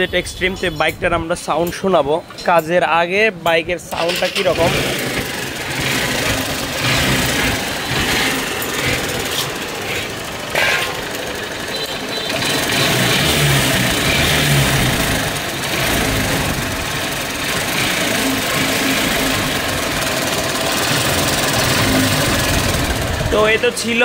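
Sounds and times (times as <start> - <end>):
motorcycle engine running abnormally: 4.0 - 24.0.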